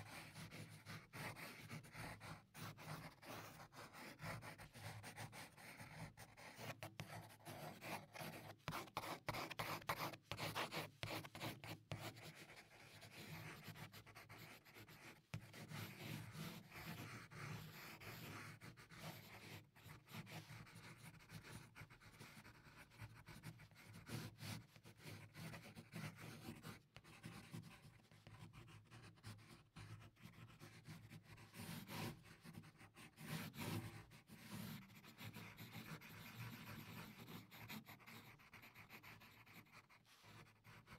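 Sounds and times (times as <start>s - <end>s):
pencil scratching on paper: 0.0s - 40.9s.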